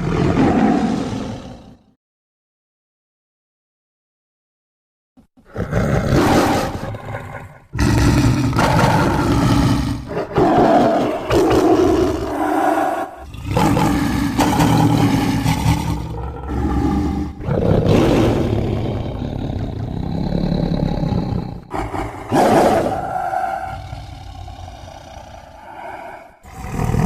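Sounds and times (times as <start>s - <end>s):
dinosaur roars: 0.0s - 2.0s, 5.5s - 27.0s.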